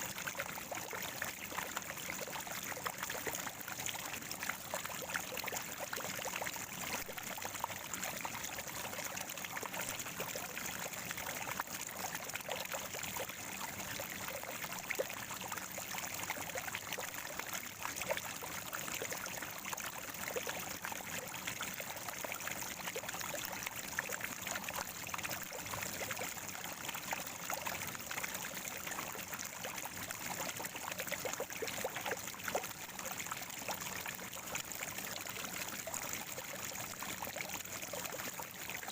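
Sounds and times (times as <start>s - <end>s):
spring water gurgling: 0.0s - 38.9s.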